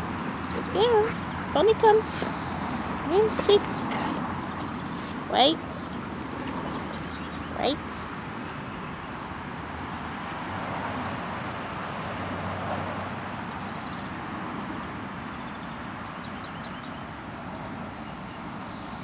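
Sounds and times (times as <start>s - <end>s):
outdoor background hiss and rumble: 0.0s - 19.0s.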